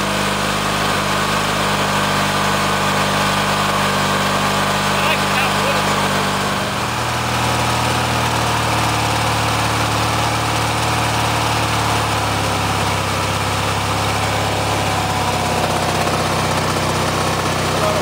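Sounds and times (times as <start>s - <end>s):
lawn tractor engine running: 0.0s - 18.0s.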